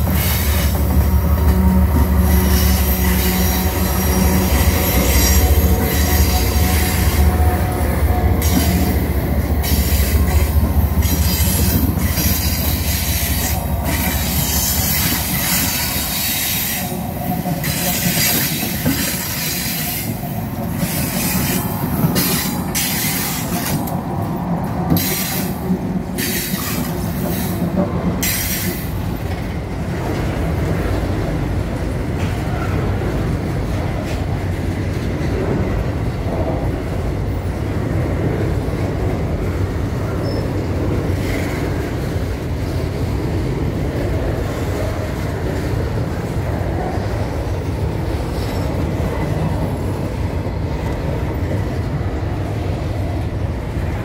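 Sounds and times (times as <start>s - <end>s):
diesel locomotive engines droning: 0.0s - 54.0s
steel wheels on rails: 0.0s - 54.0s.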